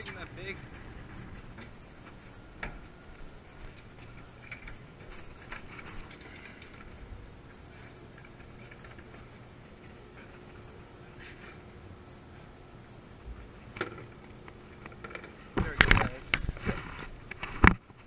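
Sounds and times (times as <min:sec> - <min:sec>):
steady low rumble: 0:00.0 - 0:17.5.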